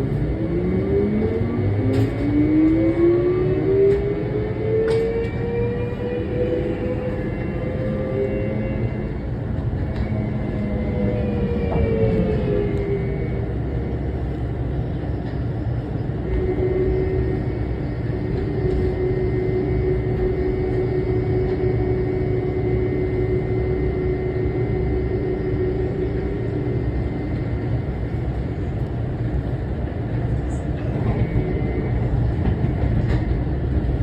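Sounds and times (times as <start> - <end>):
train running gear rumble: 0.0 - 34.0.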